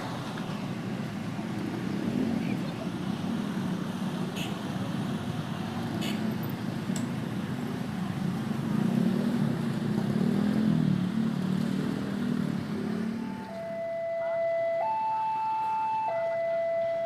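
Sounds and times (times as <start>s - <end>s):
passing vehicles engine rumble: 0.0s - 17.0s.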